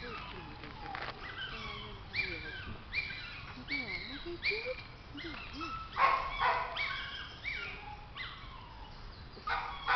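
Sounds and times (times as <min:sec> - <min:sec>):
dog yelping: 0:00.0 - 0:09.9.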